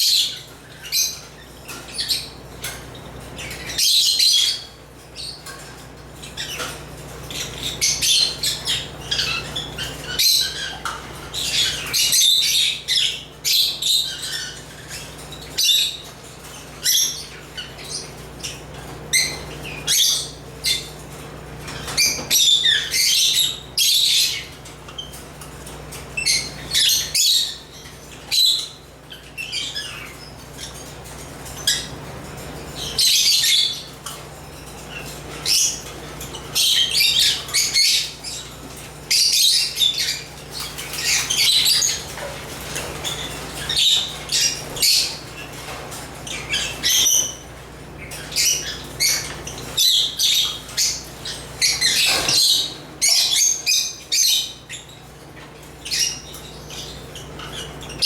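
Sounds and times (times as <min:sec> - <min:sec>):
birds chirping and squawking: 0:00.0 - 0:58.0.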